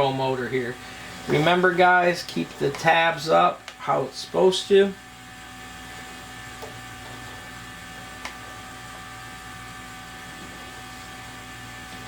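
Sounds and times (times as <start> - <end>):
background hum with tones: 0.0 - 12.0.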